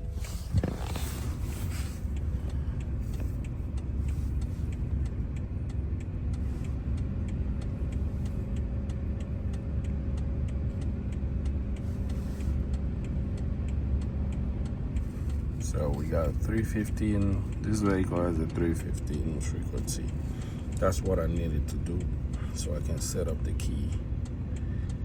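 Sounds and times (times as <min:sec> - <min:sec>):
fast even ticking: 0:00.0 - 0:25.0
low mechanical hum: 0:00.0 - 0:25.0.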